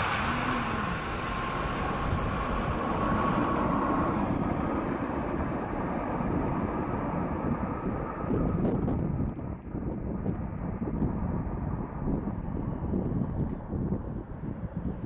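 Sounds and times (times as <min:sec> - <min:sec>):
jet engines passing overhead: 0:00.0 - 0:15.0
steady jet rumble: 0:00.0 - 0:15.0.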